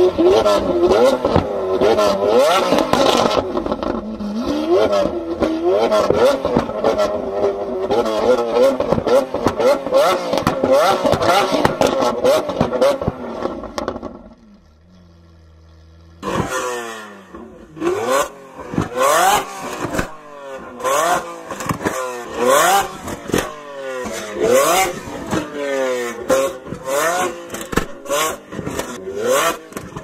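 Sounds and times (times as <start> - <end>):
car engine idling and revving: 0.0 - 30.0
exhaust cracks: 0.0 - 30.0.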